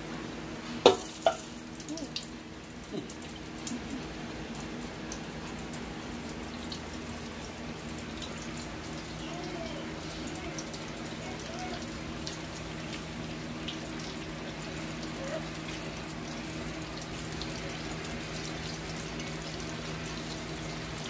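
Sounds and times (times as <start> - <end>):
oil sizzling and bubbling: 0.0 - 21.0.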